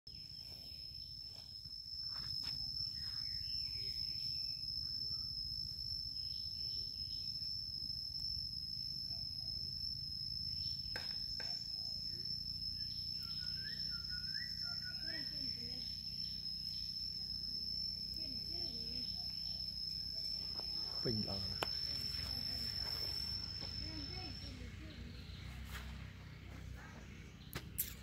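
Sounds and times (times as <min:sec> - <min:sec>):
high-pitched insect drone: 0:00.1 - 0:28.0.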